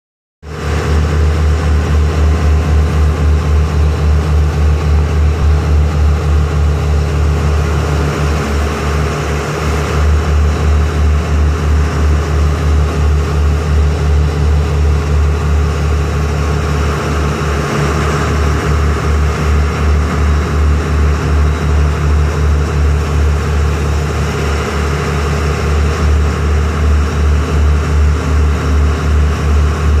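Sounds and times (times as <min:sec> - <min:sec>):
boat engine throbbing: 0:00.4 - 0:30.0
water rushing along hull: 0:00.5 - 0:30.0.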